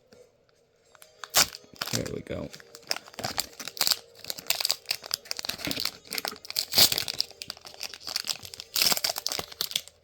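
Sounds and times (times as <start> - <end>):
foil wrapper crackling: 0.9 - 10.0.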